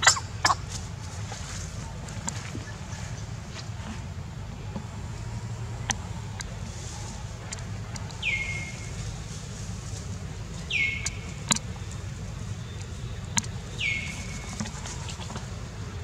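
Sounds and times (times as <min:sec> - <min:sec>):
bird calling: 0:00.0 - 0:03.3, 0:05.1 - 0:16.0
steady low rumble: 0:00.0 - 0:16.0.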